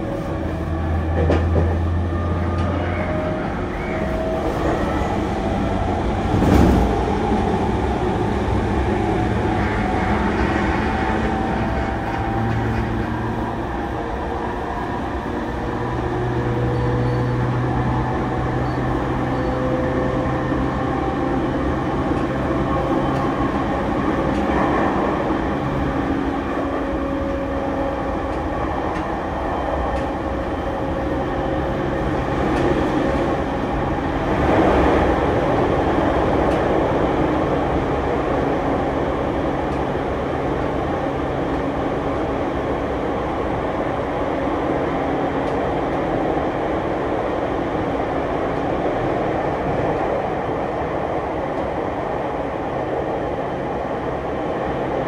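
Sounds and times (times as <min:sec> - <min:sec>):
wheel and rail rumble: 0:00.0 - 0:55.0.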